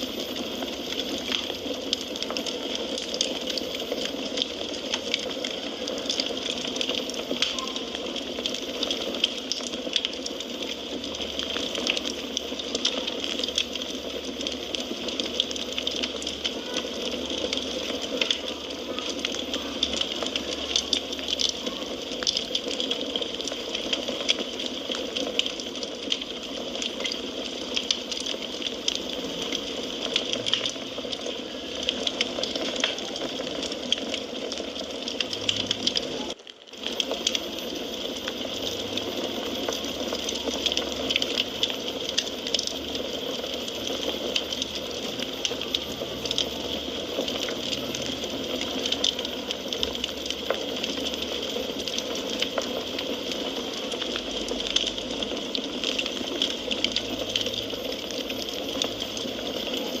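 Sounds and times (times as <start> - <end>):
wood fire crackling: 0.0 - 60.0.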